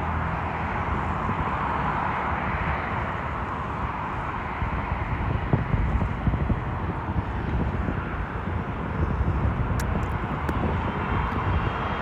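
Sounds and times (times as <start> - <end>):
jet airliner rumble: 0.0 - 12.0.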